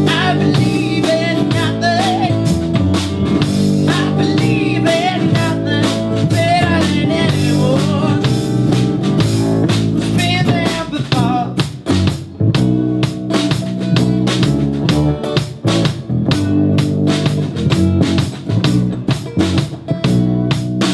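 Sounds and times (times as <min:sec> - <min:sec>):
drum kit hits: 0:00.0 - 0:20.9
guitars and bass chords: 0:00.0 - 0:20.9.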